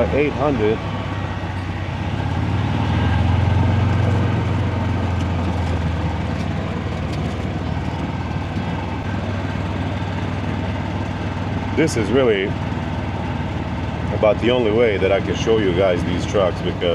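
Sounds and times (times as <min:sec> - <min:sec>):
golf cart running hum: 0:00.0 - 0:16.9.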